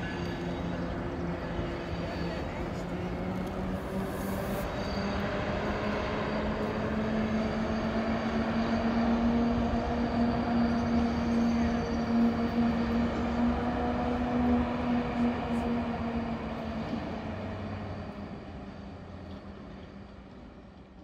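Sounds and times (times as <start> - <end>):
locomotive engine hum: 0.0 - 21.0
train rumbling on rails: 0.0 - 21.0.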